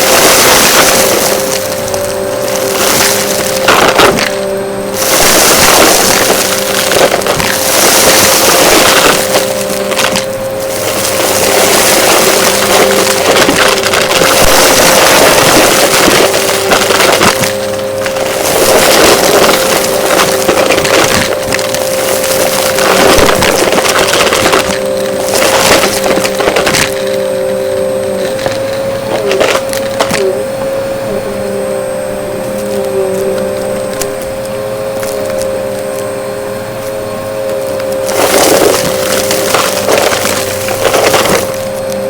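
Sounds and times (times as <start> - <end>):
debris crackling through vacuum: 0.0 - 30.4, 37.9 - 42.0
vacuum cleaner whine: 0.0 - 42.0.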